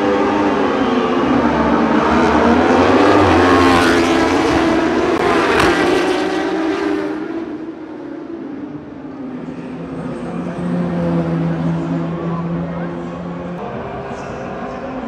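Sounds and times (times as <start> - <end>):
racing motorbikes accelerating: 0.0 - 15.0.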